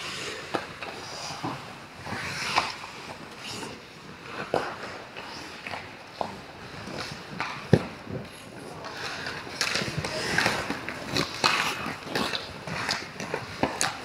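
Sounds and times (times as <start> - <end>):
skate blades scraping ice: 0.0 - 14.0.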